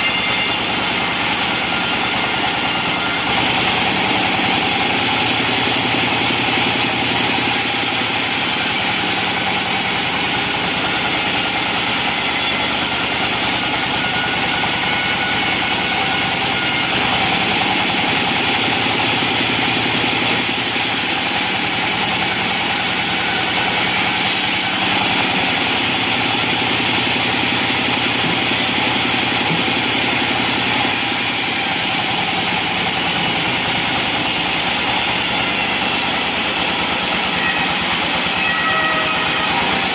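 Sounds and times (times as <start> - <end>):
band sawmill drone with hiss: 0.0 - 39.9.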